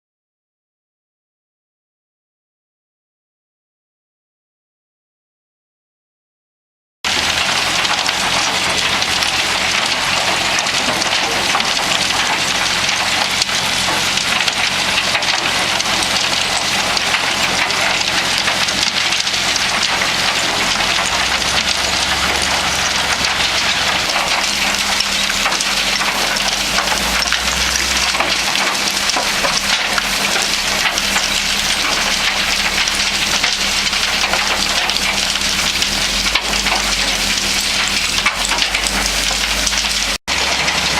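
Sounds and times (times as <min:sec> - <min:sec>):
debris rattling in rotating drum: 0:07.1 - 0:40.9
low machine hum: 0:07.1 - 0:40.9.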